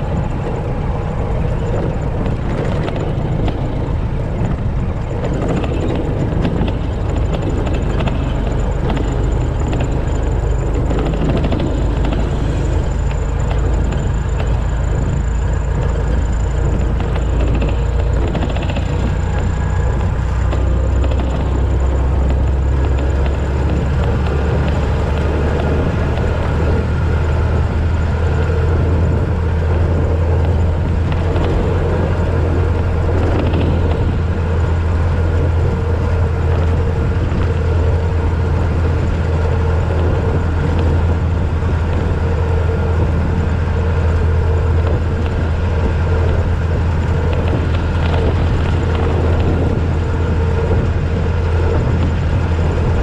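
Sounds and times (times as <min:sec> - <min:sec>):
car engine running: 0:00.0 - 0:53.0
wind rumble: 0:00.0 - 0:53.0.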